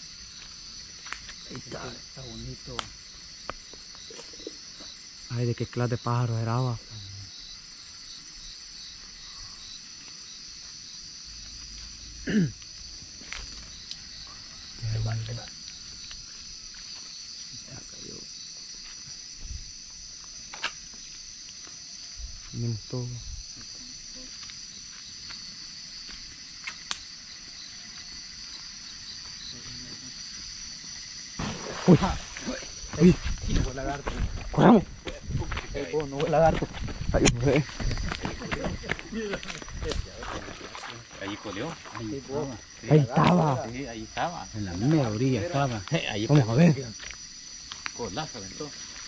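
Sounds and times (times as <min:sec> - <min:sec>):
crickets chirping: 0:00.0 - 0:49.0
night insects trilling: 0:00.0 - 0:49.0.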